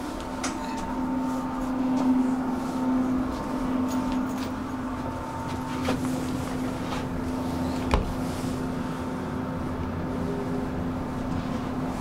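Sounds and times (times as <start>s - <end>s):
electric train hum: 0.0s - 12.0s
train rumbling on track: 0.0s - 12.0s.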